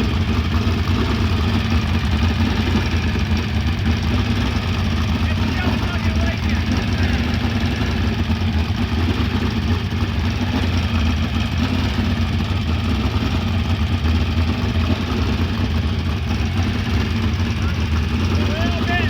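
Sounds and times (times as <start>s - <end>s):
race car engine idling: 0.0s - 19.0s.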